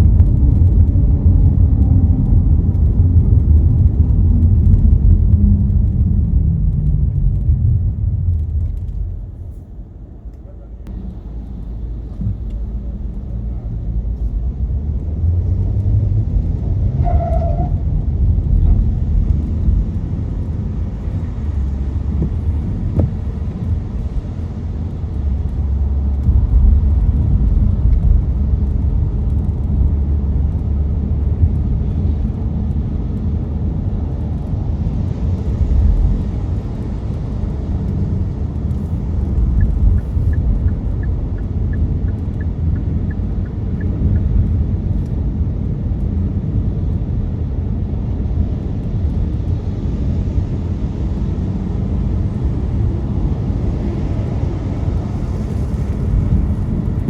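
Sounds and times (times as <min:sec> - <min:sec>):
tyre and road noise on wet road: 0:00.0 - 0:57.0.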